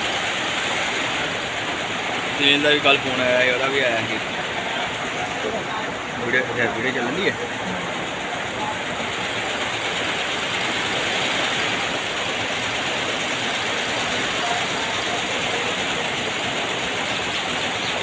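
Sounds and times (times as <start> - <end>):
running vehicle rushing hiss: 0.0 - 18.0.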